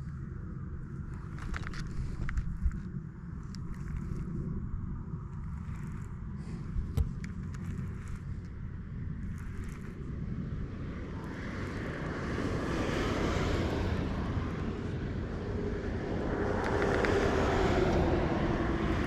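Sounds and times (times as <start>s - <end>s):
aircraft engine drone: 0.0s - 19.0s
steady hum: 0.0s - 19.0s.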